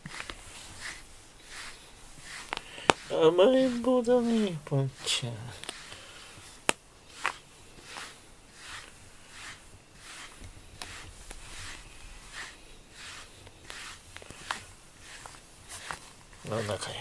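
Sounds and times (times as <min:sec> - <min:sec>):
brush stroking cat fur: 0:00.0 - 0:17.0.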